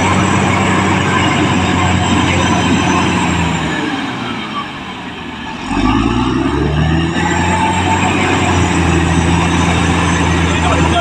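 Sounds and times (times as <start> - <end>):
bulldozer diesel engine revving: 0.0 - 11.0.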